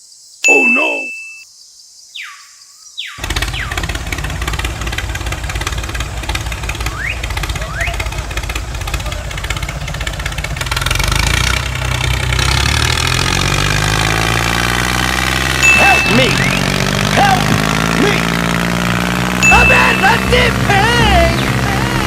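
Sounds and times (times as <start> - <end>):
engine rumbling: 3.2 - 22.0.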